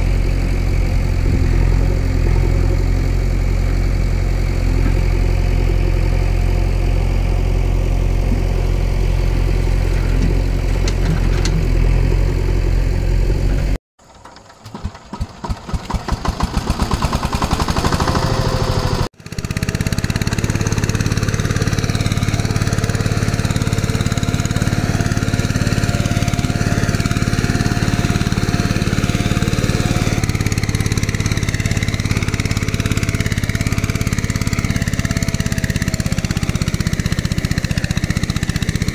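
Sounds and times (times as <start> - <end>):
engine starting and revving: 0.0 - 6.8, 8.0 - 38.9
engine running: 0.0 - 38.9
engine with thin whine: 0.0 - 38.9.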